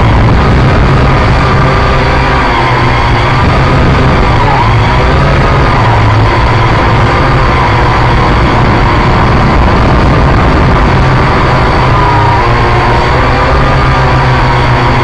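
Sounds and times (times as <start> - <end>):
drone motors buzzing: 0.0 - 15.0.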